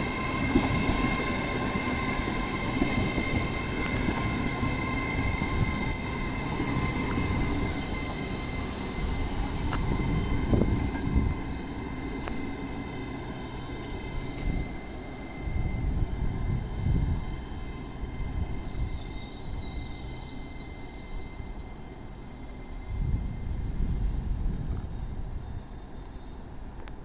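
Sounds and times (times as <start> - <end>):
train low rumble: 0.0 - 27.0.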